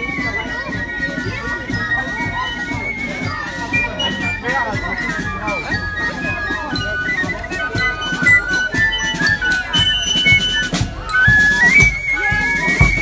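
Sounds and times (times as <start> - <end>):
flutes playing high notes: 0.0 - 13.0
marching drum beats: 0.0 - 13.0.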